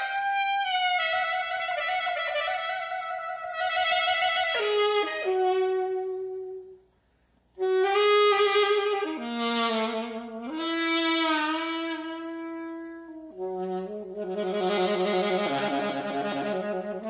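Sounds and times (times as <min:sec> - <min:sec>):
alto saxophone playing: 0:00.0 - 0:06.9, 0:07.6 - 0:17.0.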